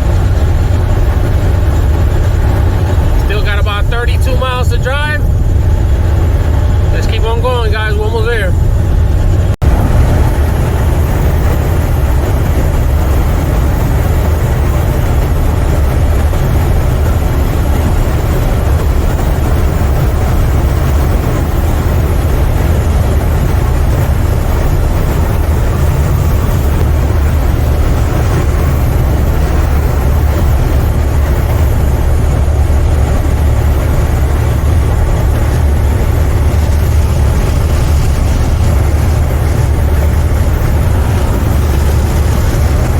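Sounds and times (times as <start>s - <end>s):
diesel engine drone: 0.0s - 42.9s
road noise: 0.0s - 42.9s.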